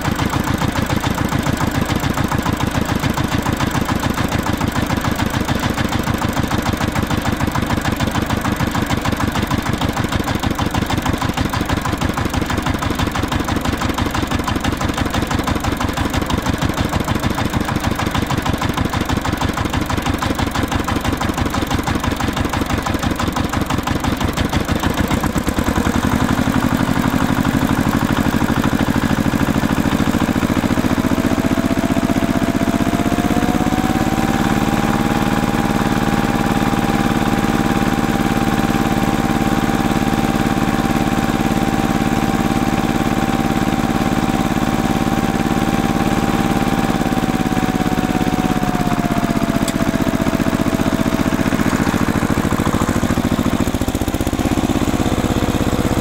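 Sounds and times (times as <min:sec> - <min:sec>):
tractor engine chugging: 0:00.0 - 0:56.0.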